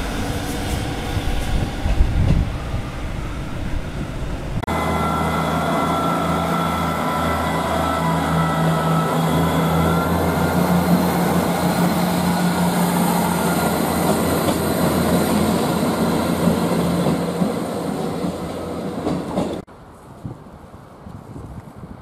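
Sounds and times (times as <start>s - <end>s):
diesel train engine drone: 0.0s - 20.1s
train wheels on rail: 0.0s - 22.0s.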